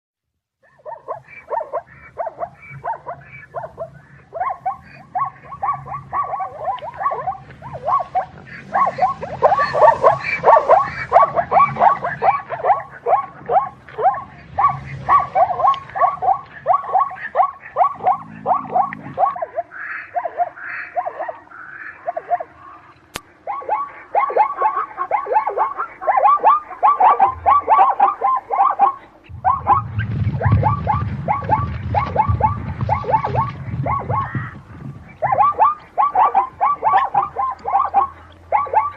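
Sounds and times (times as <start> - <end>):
zebra yelping calls: 0.6 - 38.9.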